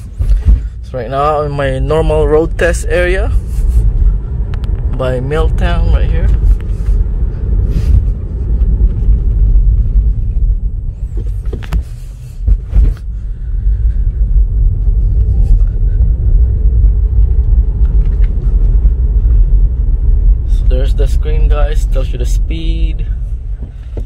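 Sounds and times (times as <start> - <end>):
road and tyre rumble in car: 0.0 - 24.0.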